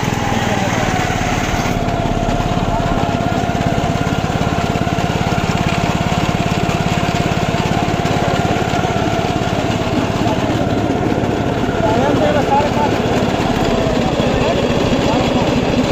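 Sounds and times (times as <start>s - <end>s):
thin steady whine: 0.0s - 15.6s
engine running steadily: 0.0s - 15.9s.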